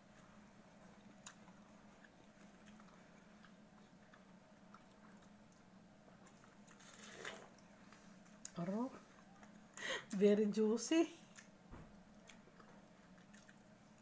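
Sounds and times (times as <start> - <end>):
chewing and biting fruit: 0.1 - 9.7, 11.3 - 14.0.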